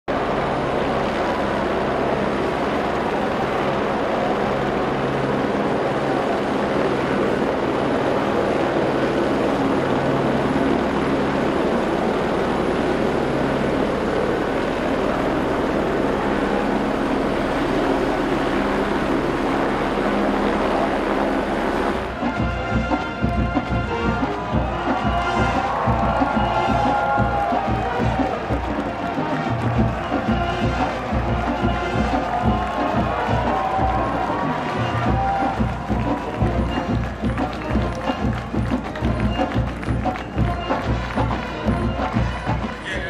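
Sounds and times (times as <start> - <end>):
helicopter rotor and engine: 0.1 - 43.0.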